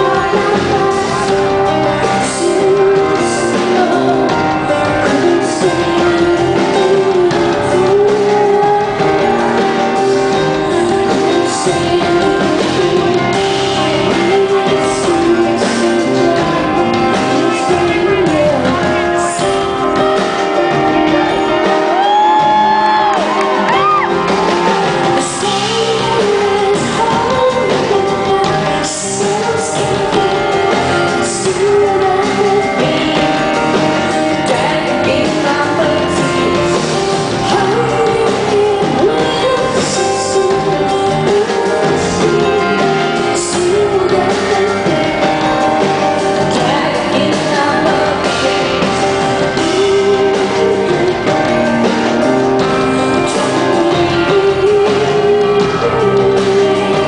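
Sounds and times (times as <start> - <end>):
live rock band music: 0.0 - 57.0
woman singing: 0.0 - 57.0.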